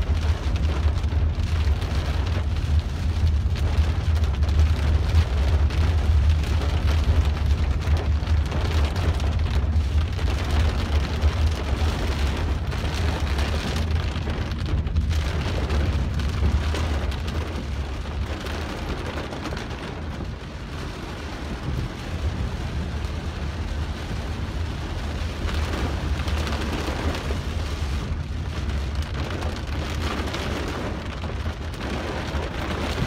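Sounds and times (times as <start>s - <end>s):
car road rumble: 0.0s - 33.0s
heavy rain on car roof: 0.0s - 33.0s.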